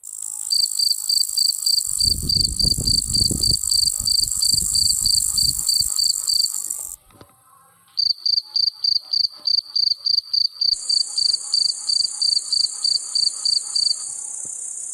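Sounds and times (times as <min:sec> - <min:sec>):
cricket chirping: 0:00.0 - 0:07.0, 0:08.0 - 0:14.9
high hiss of insects: 0:00.0 - 0:07.0, 0:07.9 - 0:14.9.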